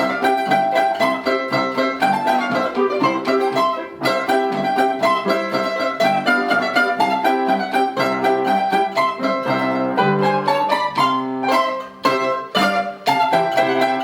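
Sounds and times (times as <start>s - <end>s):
instrumental folk music: 0.0s - 14.0s.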